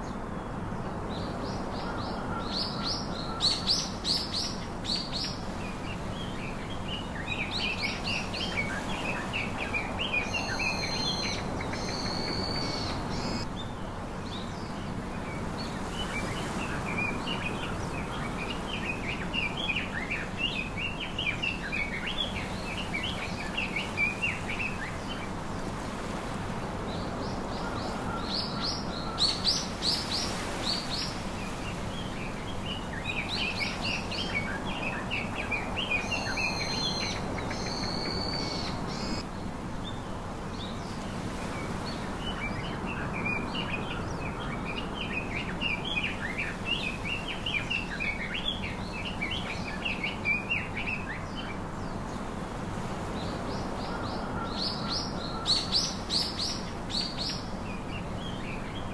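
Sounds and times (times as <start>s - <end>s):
small birds chirping: 1.2s - 58.9s.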